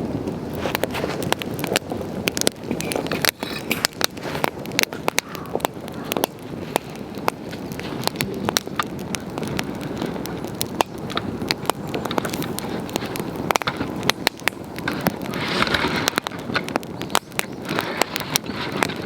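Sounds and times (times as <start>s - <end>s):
campfire crackling: 0.0s - 19.0s
fire hissing: 0.0s - 19.0s
sharp pops of burning wood: 0.0s - 19.0s.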